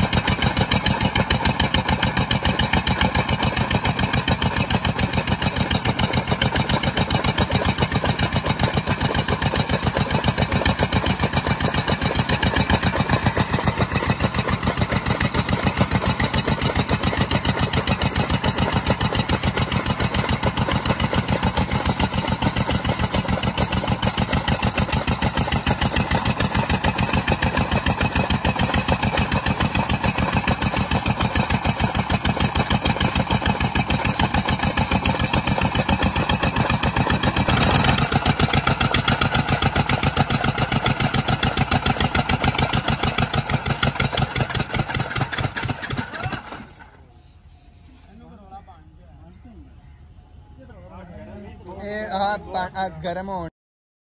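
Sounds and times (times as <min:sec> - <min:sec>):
chaff cutter cutting stalks: 0:00.0 - 0:46.8
diesel engine chugging: 0:00.0 - 0:53.5.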